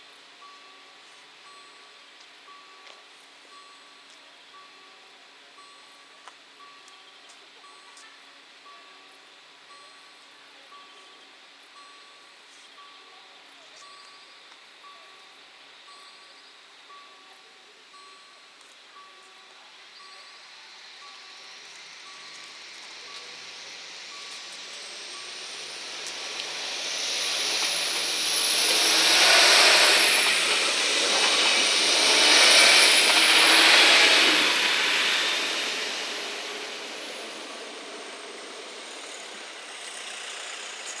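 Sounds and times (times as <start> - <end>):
diesel railcar engine: 0.0 - 41.0
train wheels on rails: 0.0 - 41.0.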